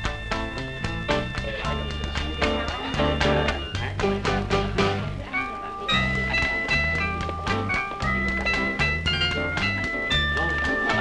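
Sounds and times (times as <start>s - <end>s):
bass line: 0.0s - 5.3s, 5.9s - 11.0s
instrumental music with steady beat: 0.0s - 11.0s.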